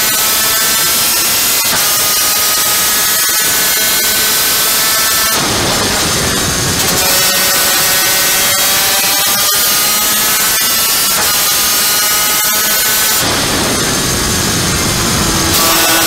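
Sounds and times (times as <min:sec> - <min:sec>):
two-stroke kart engine revving: 0:00.0 - 0:16.0.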